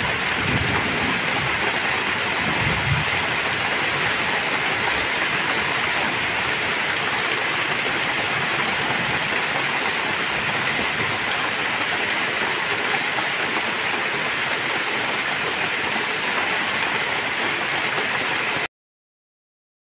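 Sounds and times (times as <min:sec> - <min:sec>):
heavy rain pouring: 0:00.0 - 0:18.7.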